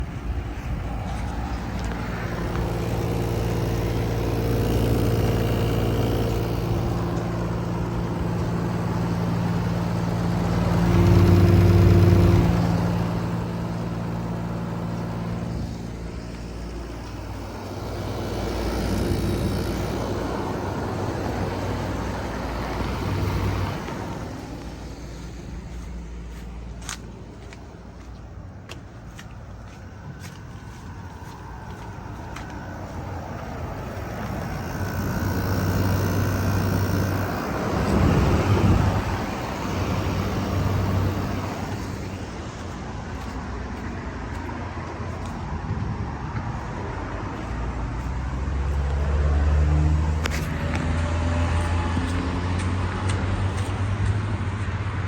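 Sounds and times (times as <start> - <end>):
air conditioner running: 0.0 - 47.2.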